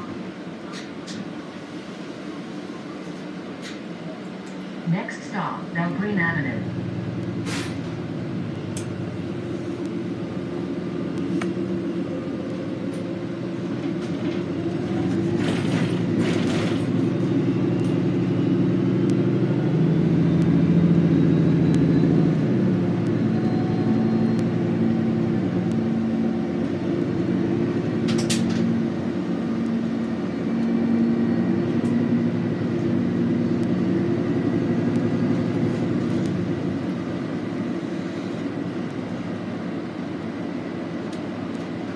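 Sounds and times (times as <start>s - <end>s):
bus interior rumble: 0.0s - 41.9s.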